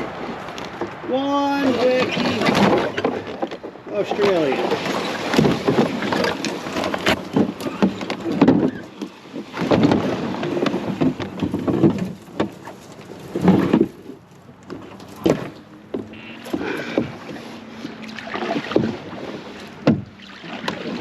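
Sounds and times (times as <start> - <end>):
dry vegetation rustling: 0.4 - 17.8.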